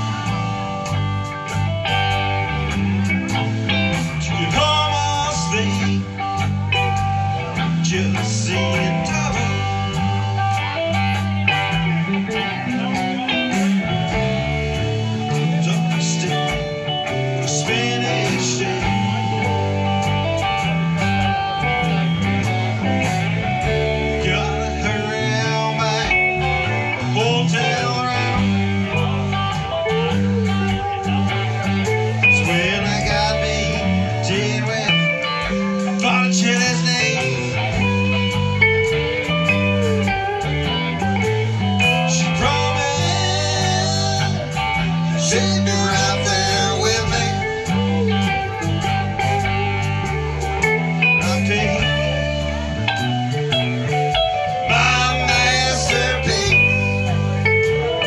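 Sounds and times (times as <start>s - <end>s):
bass line: 0.0s - 58.0s
drums: 0.0s - 58.0s
electric guitars: 0.0s - 58.0s.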